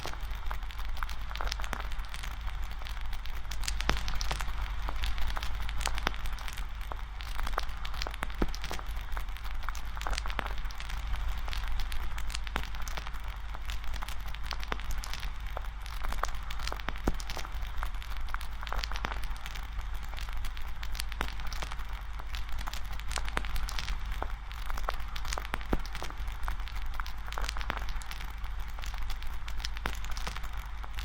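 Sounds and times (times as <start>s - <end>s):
campfire crackling and popping: 0.0s - 31.0s
fire hiss and low rumble: 0.0s - 31.0s.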